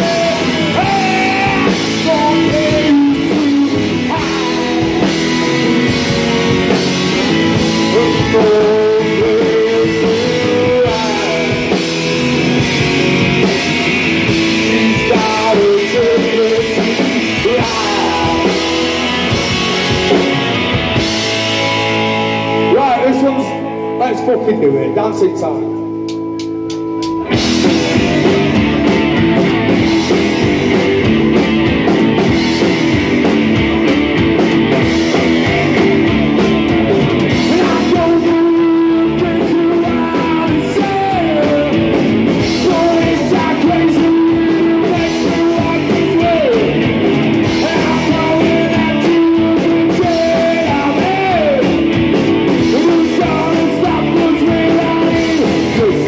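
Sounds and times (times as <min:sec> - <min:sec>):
rock band playing loud: 0:00.0 - 0:56.0.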